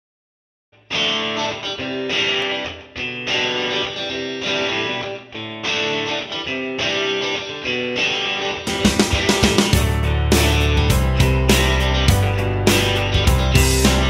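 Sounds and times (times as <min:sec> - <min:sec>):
strummed guitar music: 0:00.8 - 0:14.0.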